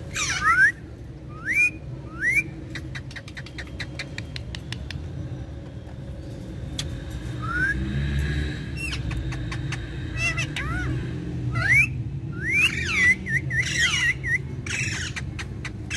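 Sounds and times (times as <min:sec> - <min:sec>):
parakeets whistling calls: 0:00.0 - 0:04.4, 0:07.3 - 0:15.9.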